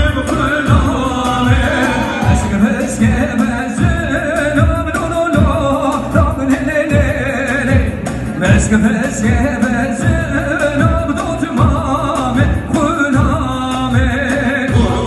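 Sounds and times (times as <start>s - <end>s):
low drum beat: 0.0s - 15.0s
person singing with vibrato: 0.0s - 15.0s.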